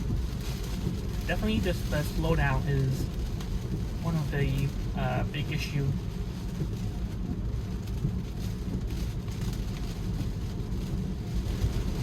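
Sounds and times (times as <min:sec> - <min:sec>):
rain hitting a car: 0:00.0 - 0:12.0
road and tyre rumble: 0:00.0 - 0:12.0.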